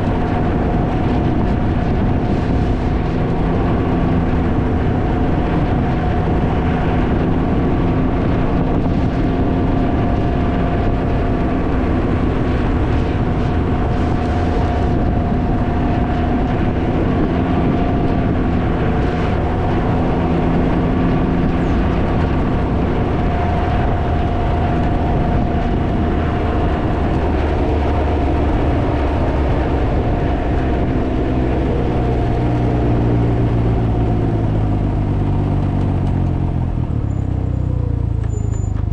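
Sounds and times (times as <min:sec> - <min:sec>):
engine running at cruising speed: 0:00.0 - 0:38.9
wind buffeting on microphone: 0:00.0 - 0:38.9.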